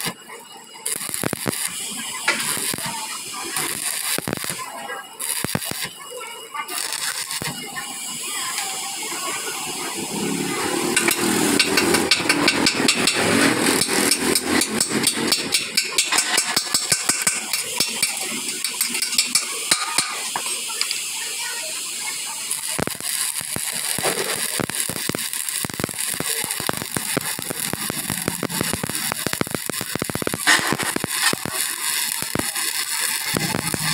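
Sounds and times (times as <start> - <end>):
welding arc crackling: 0.0 - 33.9.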